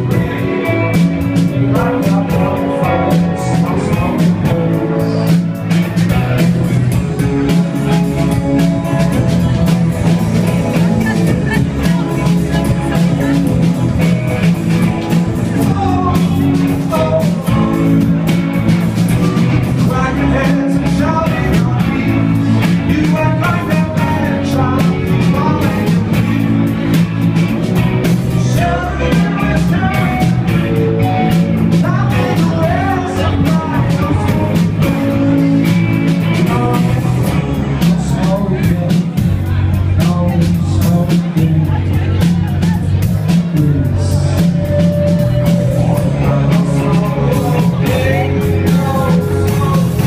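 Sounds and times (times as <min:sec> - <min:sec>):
bass guitar: 0:00.0 - 0:50.0
drum kit: 0:00.0 - 0:50.0
electric guitars: 0:00.0 - 0:50.0
man singing: 0:00.0 - 0:50.0.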